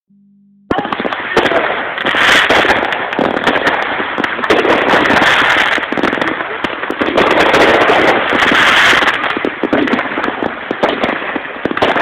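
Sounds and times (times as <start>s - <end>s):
fireworks popping and crackling: 0.7s - 12.0s.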